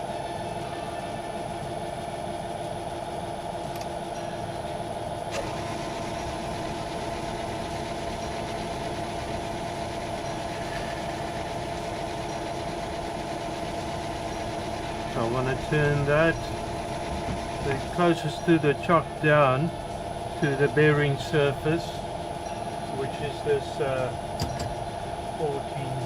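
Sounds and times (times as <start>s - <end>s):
metal lathe humming: 2.4s - 26.0s.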